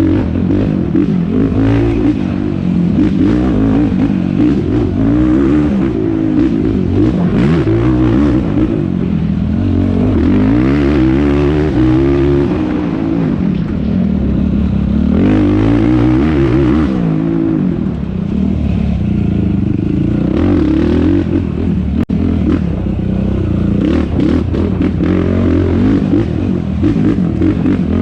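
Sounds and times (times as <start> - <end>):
quad engine revving: 0.0 - 28.0.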